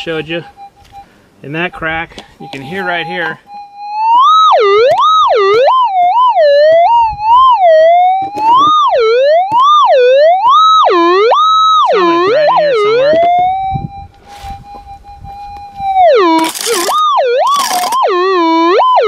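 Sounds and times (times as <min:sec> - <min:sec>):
metal detector tone warbling: 0:02.4 - 0:19.0.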